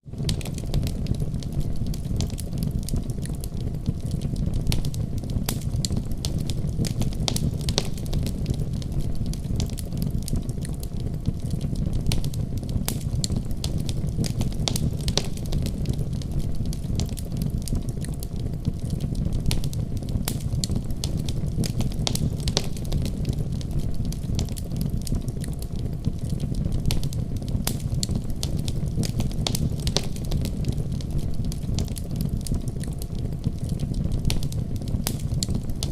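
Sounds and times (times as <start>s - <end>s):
logs crackling in fireplace: 0.0s - 35.9s
low fire rumble: 0.0s - 35.9s.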